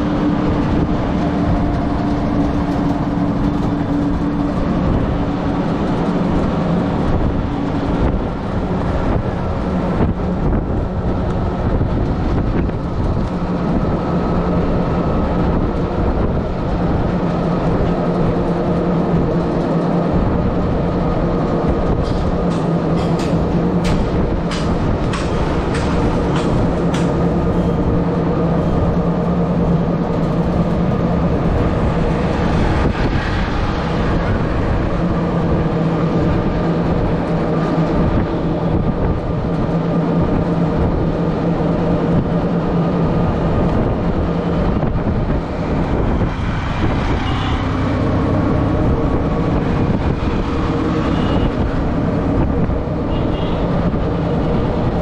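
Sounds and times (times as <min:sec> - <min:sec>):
auto-rickshaw engine running: 0:00.0 - 0:55.0
road and wind noise: 0:00.0 - 0:55.0.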